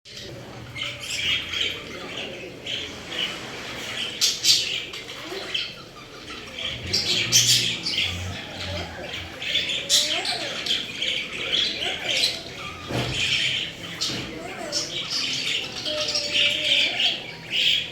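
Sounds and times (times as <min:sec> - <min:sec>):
parrots chirping: 0:00.1 - 0:17.9.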